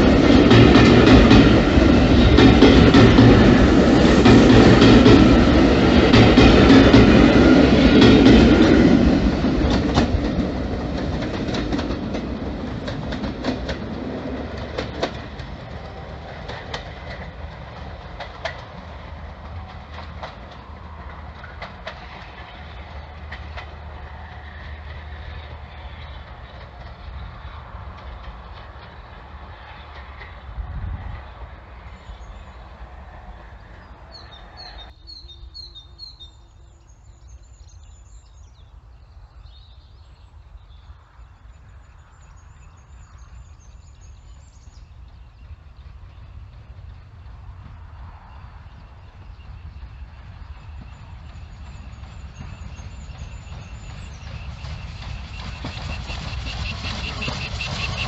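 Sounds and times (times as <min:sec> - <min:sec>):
train wheels clicking over joints: 0:00.0 - 0:35.0, 0:42.8 - 0:58.0.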